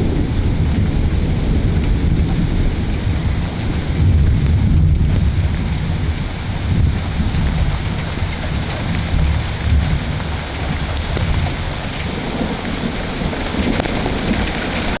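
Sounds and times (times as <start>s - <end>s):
rain hissing and pattering: 0.0s - 15.0s
thunder rumbling: 0.0s - 15.0s.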